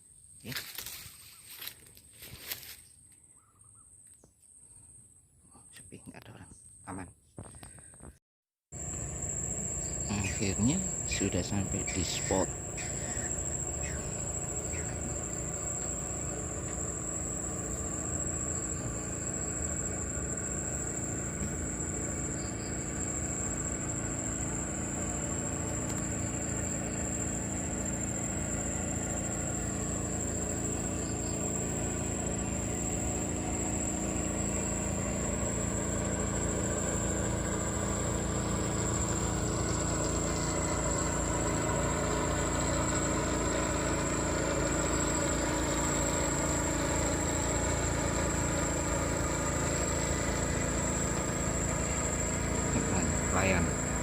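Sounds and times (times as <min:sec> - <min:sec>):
high-pitched insect drone: 0:00.0 - 0:03.8, 0:08.8 - 0:54.0
motor engine hum: 0:00.4 - 0:03.8, 0:08.8 - 0:54.0.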